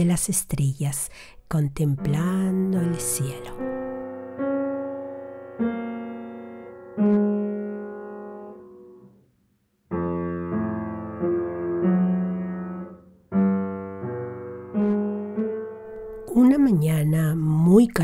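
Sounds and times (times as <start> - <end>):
solo piano music: 1.9 - 9.2, 9.9 - 17.7.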